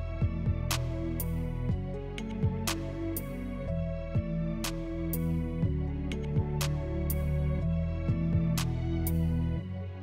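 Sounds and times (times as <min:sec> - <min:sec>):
instrumental chords and bass: 0:00.0 - 0:10.0.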